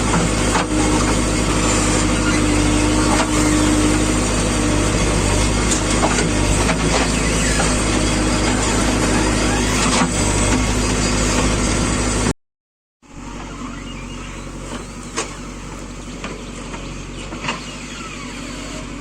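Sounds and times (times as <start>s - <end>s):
heavy diesel engine running: 0.0s - 12.3s, 13.0s - 19.0s.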